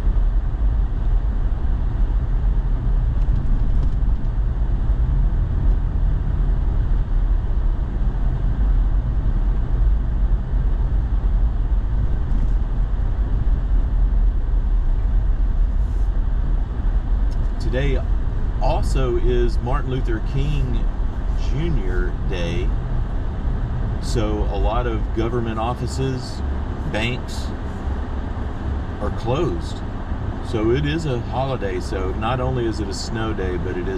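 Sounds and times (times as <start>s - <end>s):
truck engine rumble: 0.0s - 33.9s.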